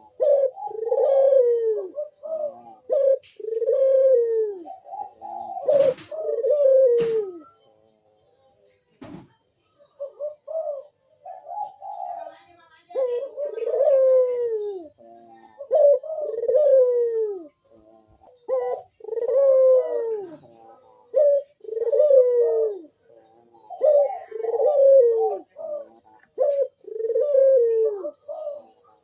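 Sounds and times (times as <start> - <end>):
dove cooing: 0.0 - 7.8, 9.8 - 29.0.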